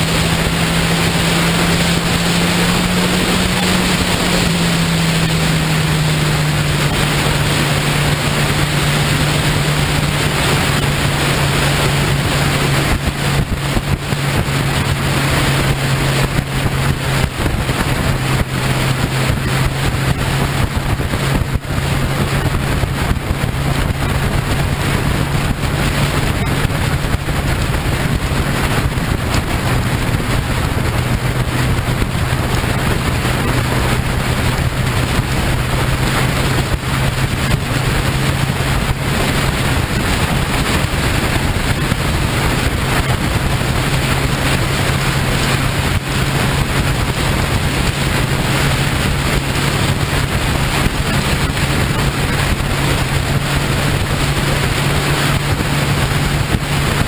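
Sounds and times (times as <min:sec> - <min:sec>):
motorcycle engine drone: 0:00.0 - 0:57.0
wind rush on microphone: 0:00.0 - 0:57.0.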